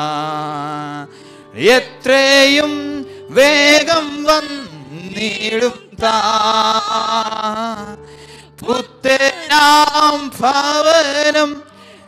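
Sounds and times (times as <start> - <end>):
held keyboard chords: 0.0 - 12.0
men singing worship song: 0.0 - 12.0.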